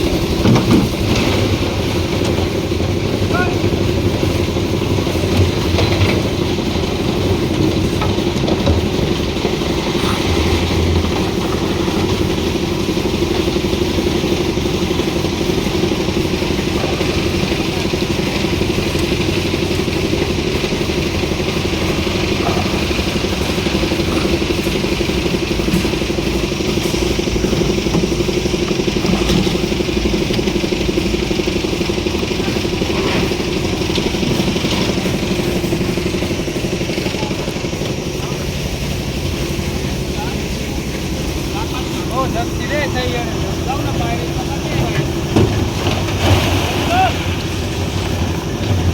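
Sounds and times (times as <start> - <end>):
concrete mixer engine running: 0.0 - 48.9.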